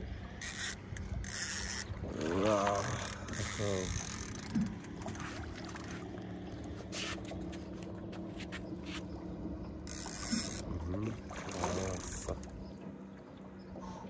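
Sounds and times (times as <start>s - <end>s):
steady low hum: 0.0s - 14.0s
water swirling and splashing: 0.0s - 14.0s.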